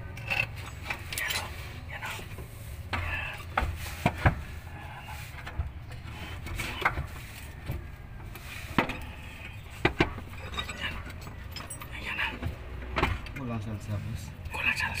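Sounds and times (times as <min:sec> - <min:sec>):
rubbing of metal parts: 0:00.0 - 0:12.7.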